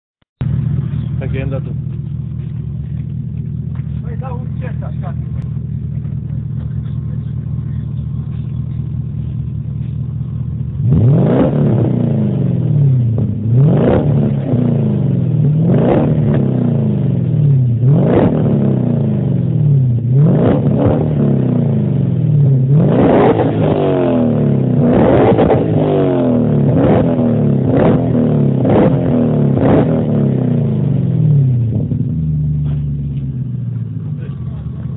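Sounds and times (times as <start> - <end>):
car engine idling and revving: 0.4 - 34.9.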